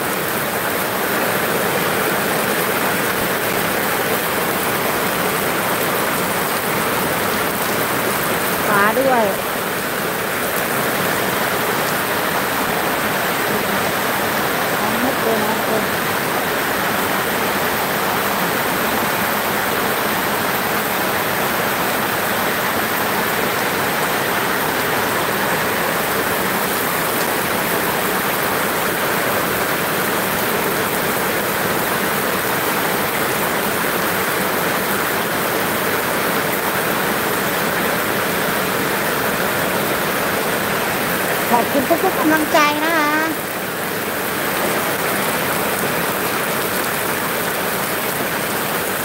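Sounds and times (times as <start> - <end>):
heavy rain on concrete: 0.0 - 49.0.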